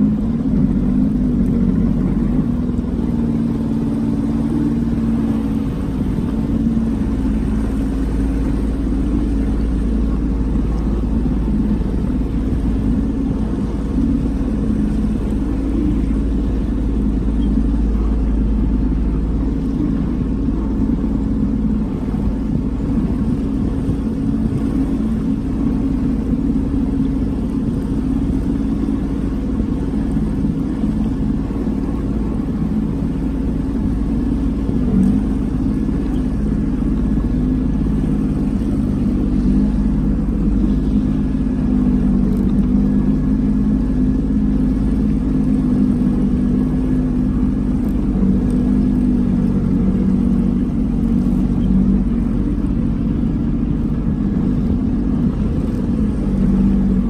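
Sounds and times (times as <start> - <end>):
watercraft engine droning: 0.0 - 57.0.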